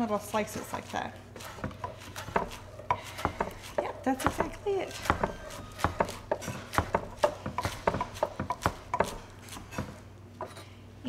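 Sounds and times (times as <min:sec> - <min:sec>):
knife chopping on wooden board: 0:00.5 - 0:10.6.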